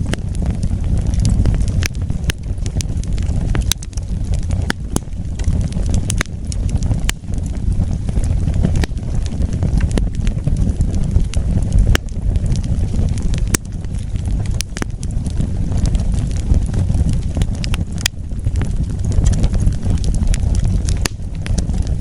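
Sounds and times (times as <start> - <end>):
fire crackling and popping: 0.0 - 22.0
fire rumbling: 0.0 - 22.0.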